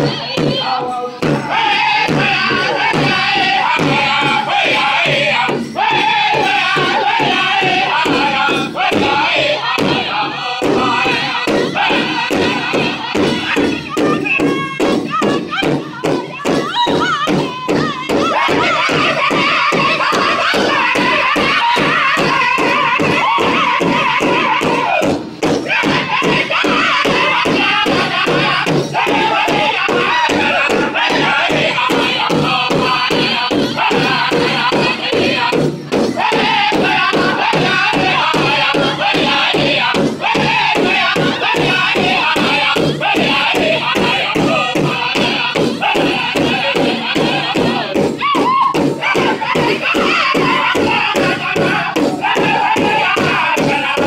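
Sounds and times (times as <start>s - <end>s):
group singing together: 0.0s - 54.0s
large drum beaten steadily: 0.0s - 54.0s.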